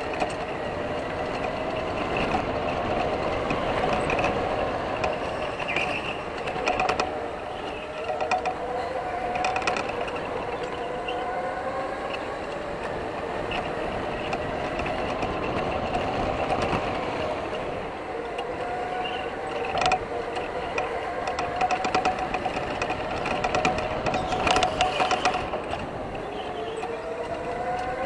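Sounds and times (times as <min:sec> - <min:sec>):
tyre and chassis noise: 0:00.0 - 0:28.0.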